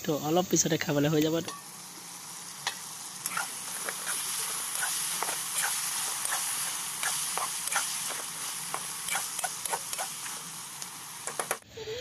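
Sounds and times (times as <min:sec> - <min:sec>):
meat sizzling: 0:00.0 - 0:11.6.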